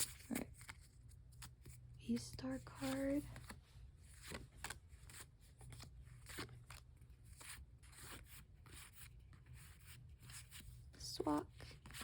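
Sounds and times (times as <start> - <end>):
trading cards rustling and sliding: 0.0 - 12.0.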